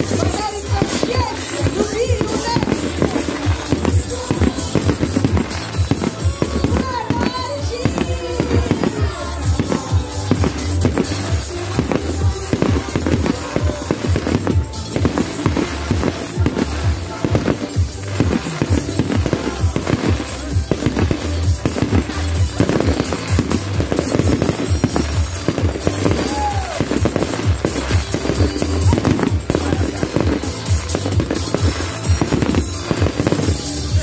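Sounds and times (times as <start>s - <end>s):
fireworks bursting: 0.0s - 34.0s
music playing: 0.0s - 34.0s.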